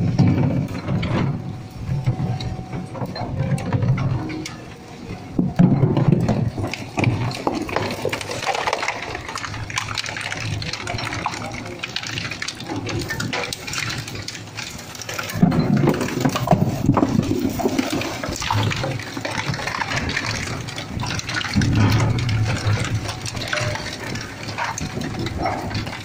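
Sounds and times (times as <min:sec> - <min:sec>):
plastic shredder crushing jugs: 0:00.0 - 0:01.4, 0:05.3 - 0:26.0.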